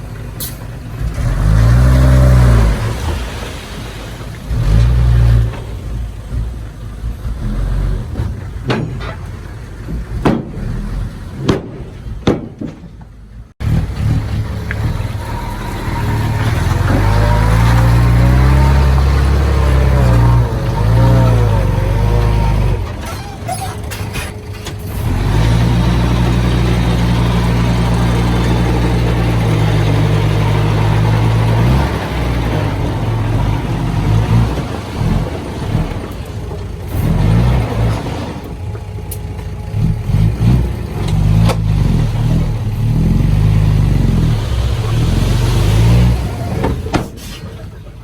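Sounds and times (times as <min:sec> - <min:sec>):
diesel engine revving: 0:00.0 - 0:12.5, 0:13.5 - 0:48.0.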